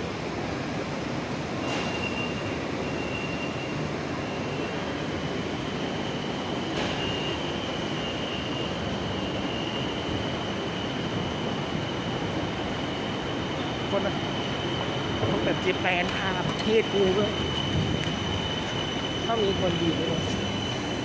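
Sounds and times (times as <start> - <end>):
high-pitched train whine: 0.0 - 21.0
train rumbling: 0.0 - 21.0.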